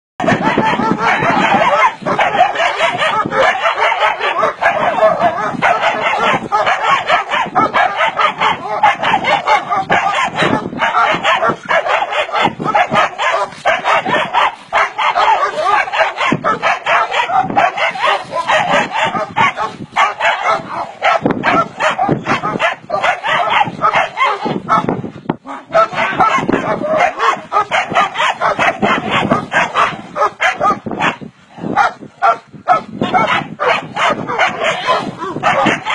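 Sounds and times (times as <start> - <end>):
dogs barking: 0.2 - 35.9.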